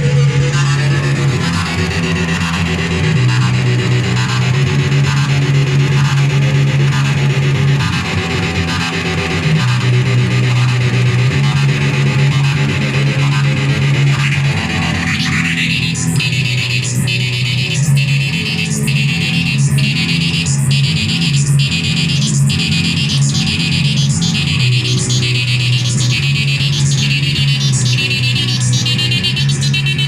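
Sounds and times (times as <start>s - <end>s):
distorted low drone: 0.0s - 30.0s.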